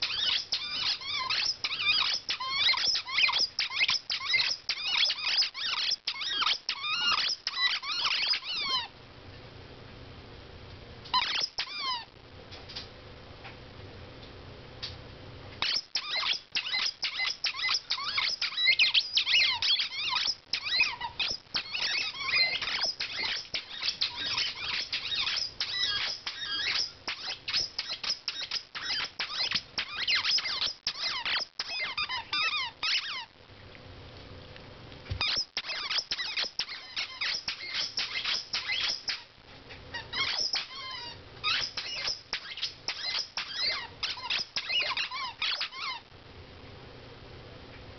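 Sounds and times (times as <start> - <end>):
rapid high-pitched squeaking: 0.0 - 8.9, 11.1 - 12.1, 15.6 - 33.4, 35.2 - 46.1.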